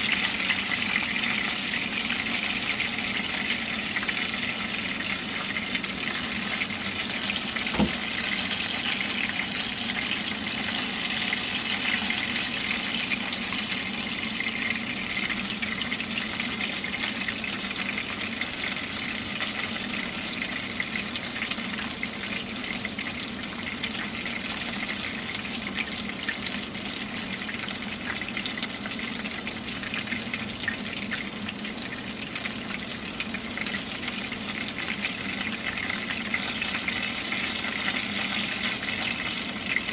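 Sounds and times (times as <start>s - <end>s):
chicken sizzling in oil: 0.0s - 39.9s.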